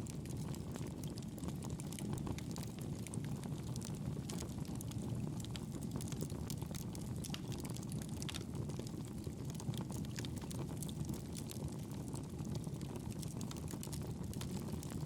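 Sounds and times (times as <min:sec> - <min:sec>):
wood crackling and popping: 0:00.0 - 0:15.0
campfire flames rushing: 0:00.2 - 0:15.0.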